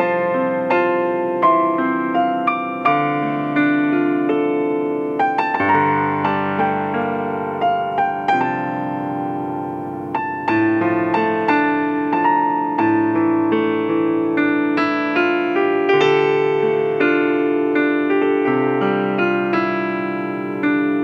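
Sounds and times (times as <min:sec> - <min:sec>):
digital piano chords: 0:00.0 - 0:21.0.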